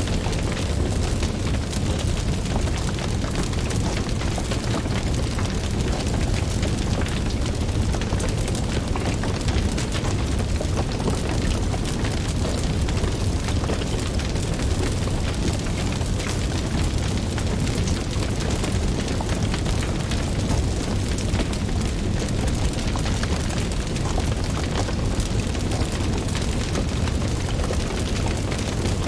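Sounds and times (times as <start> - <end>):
fire rumbling in fireplace: 0.0 - 29.0
wood fire crackling and popping: 0.0 - 29.0.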